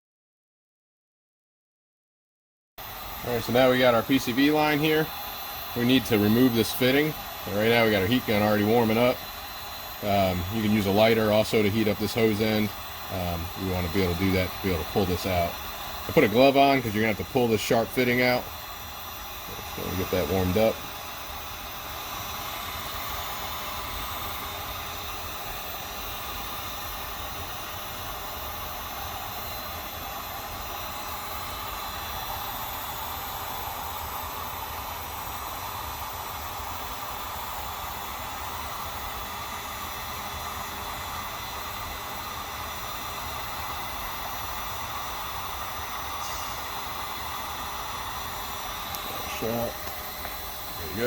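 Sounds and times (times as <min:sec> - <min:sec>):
heat gun hissing: 0:02.8 - 0:51.0.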